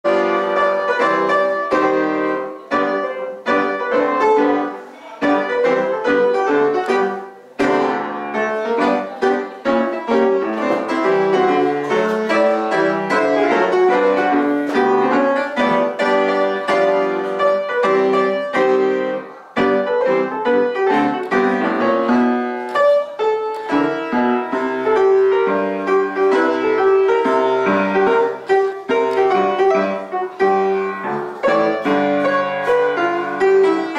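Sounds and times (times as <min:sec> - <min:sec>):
piano playing: 0:00.0 - 0:33.9.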